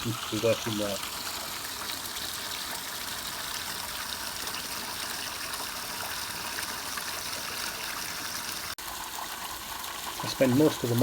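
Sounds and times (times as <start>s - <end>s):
water splashing from overflow pipe: 0.0s - 11.0s.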